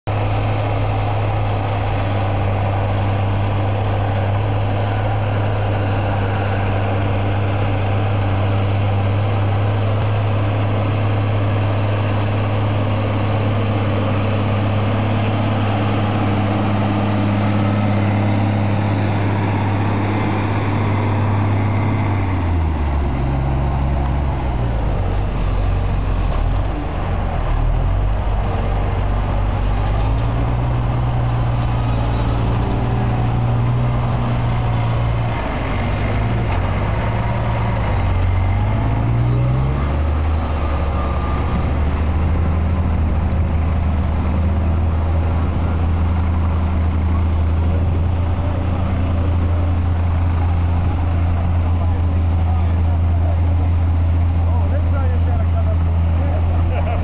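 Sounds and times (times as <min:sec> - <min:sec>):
heavy tractor diesel engine: 0:00.0 - 0:57.0.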